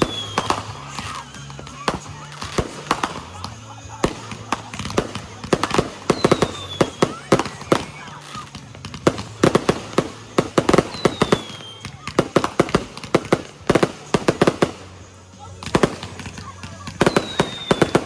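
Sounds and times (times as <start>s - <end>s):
firework whistles: 0.0s - 18.0s
fireworks and firecrackers banging: 0.0s - 18.0s.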